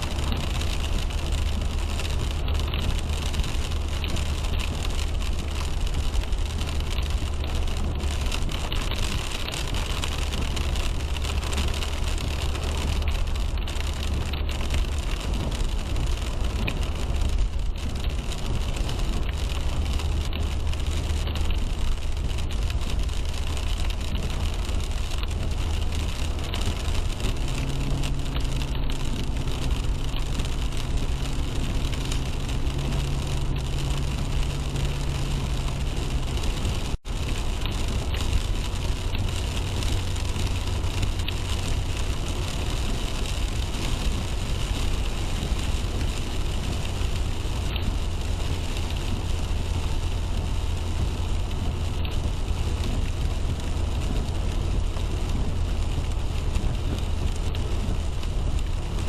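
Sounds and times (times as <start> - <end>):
car engine hum: 0.0 - 59.0
deep rumble: 0.0 - 59.0
rain on car: 0.0 - 59.0
tyres on wet road: 0.0 - 59.0.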